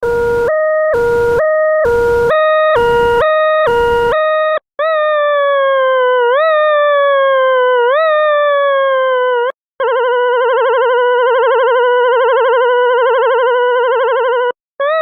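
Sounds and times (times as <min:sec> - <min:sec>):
electronic siren wailing: 0:00.0 - 0:15.0.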